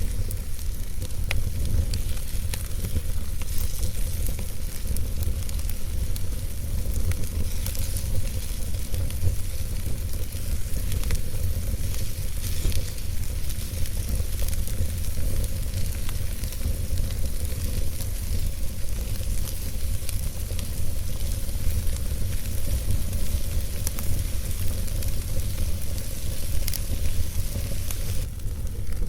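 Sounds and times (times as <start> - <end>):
campfire hissing and crackling: 0.0 - 29.0.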